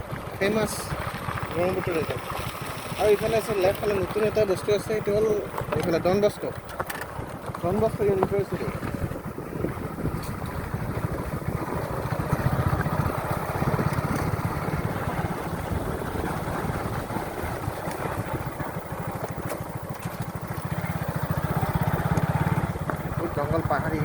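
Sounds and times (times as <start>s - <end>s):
motorcycle engine puttering: 0.0s - 24.0s.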